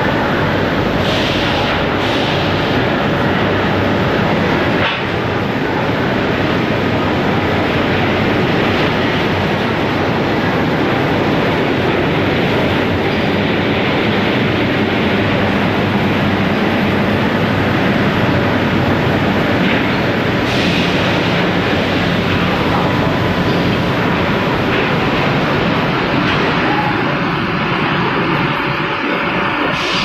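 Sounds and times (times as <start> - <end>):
industrial machinery roar: 0.0 - 30.0.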